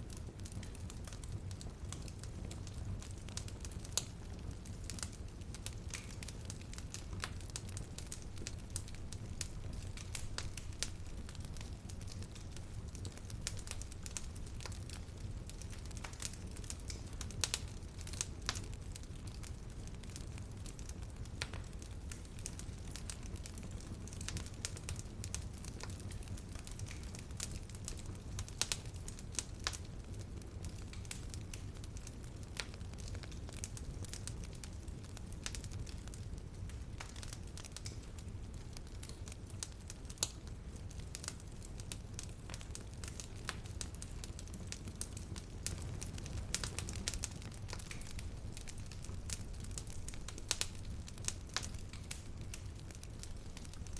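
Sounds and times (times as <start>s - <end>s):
fireplace fire crackling and popping: 0.0s - 53.9s
low rumble of burning: 0.0s - 53.9s.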